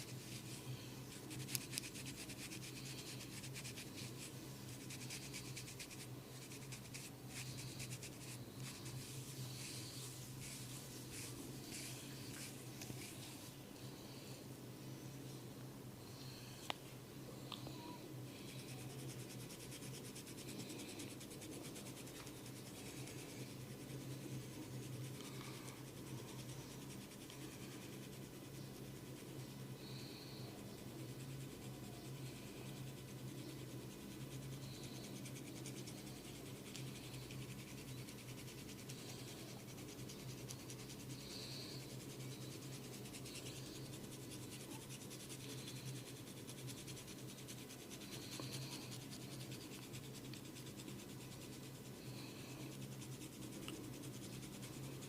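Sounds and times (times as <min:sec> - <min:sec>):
scratching and rubbing on hair: 0:00.0 - 0:13.6, 0:18.5 - 0:29.7, 0:30.5 - 0:55.0.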